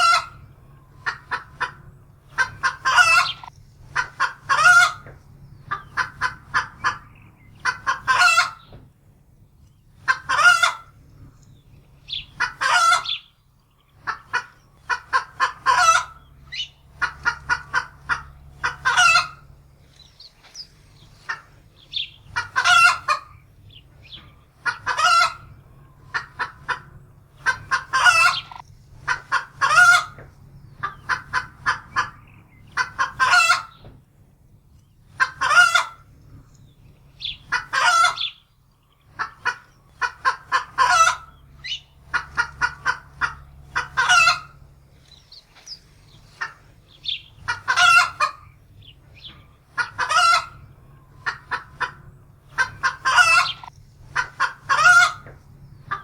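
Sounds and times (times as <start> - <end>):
hen cackling in alarm: 0.0 - 8.7, 10.0 - 11.0, 12.1 - 33.8, 35.1 - 36.1, 37.1 - 56.0.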